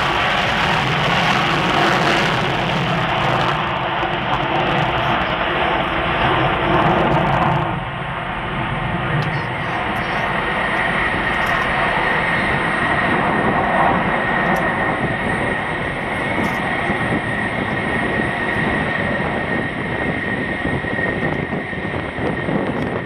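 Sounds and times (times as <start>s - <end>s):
jet engines in afterburner: 0.0s - 23.0s.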